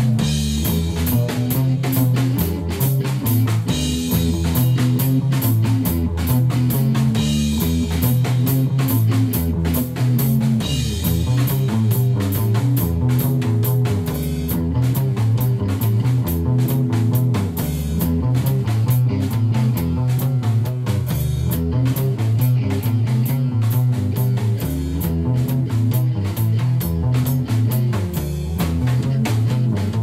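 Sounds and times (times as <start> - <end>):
bass guitar: 0.0 - 30.0
drum kit beat: 0.0 - 30.0
electric guitar: 0.0 - 30.0.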